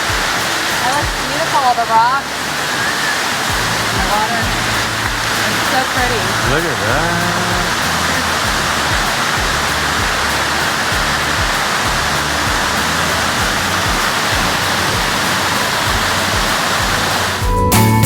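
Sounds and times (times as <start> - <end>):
waterfall pouring: 0.0 - 17.6
music: 0.0 - 18.0.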